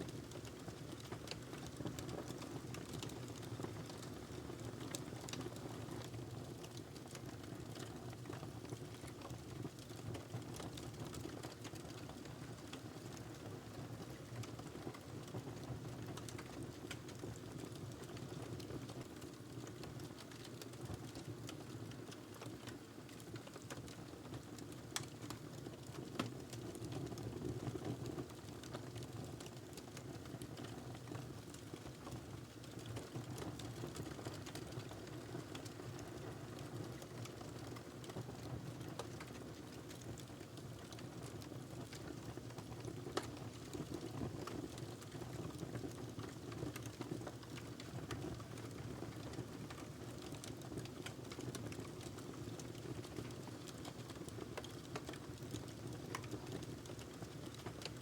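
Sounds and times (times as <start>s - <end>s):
fire burning in fireplace: 0.0s - 58.0s
crackles and pops of burning log: 0.1s - 13.3s, 15.6s - 58.0s.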